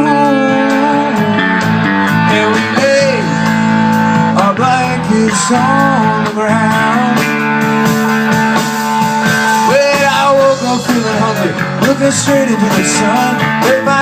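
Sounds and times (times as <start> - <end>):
person singing: 0.0 - 8.3, 9.4 - 14.0
electric guitar playing: 0.0 - 14.0
rock band music: 0.0 - 14.0.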